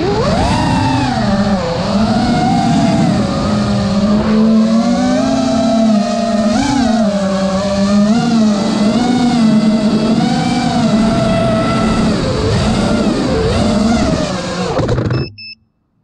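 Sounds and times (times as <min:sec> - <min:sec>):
drone motors and propellers whining: 0:00.0 - 0:15.6.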